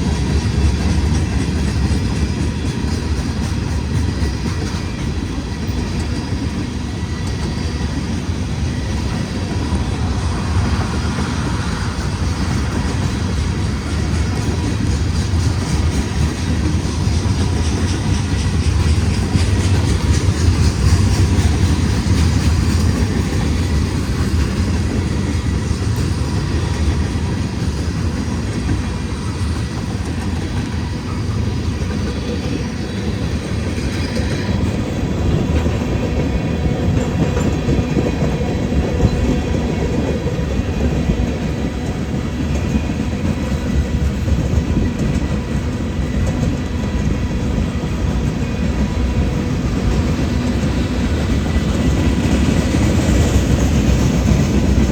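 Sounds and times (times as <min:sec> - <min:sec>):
freight train cars rumbling: 0:00.0 - 0:54.9
wheels clacking over rail joints: 0:00.0 - 0:54.9.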